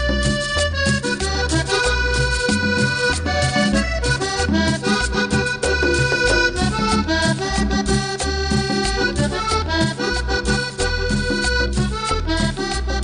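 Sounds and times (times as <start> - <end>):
accordion melody: 0.0 - 13.0
repeating bass line: 0.0 - 13.0
steady percussion: 0.0 - 13.0.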